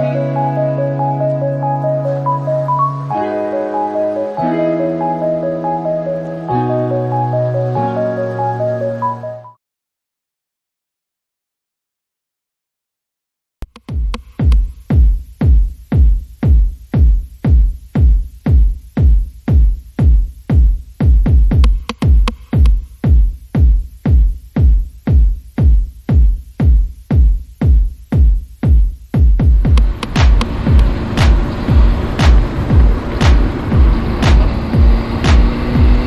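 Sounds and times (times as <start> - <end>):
electronic music with kick drum: 0.0 - 9.6, 13.6 - 36.0.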